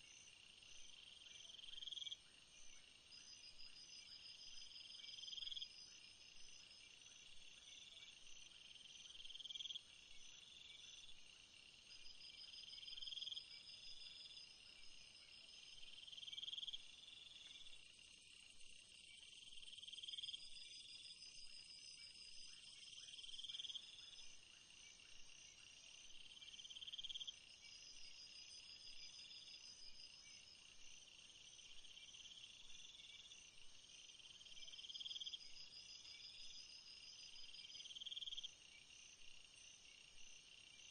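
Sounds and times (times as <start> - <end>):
crickets and insects chorus: 0.0 - 40.9
swelling insect call: 0.0 - 40.9.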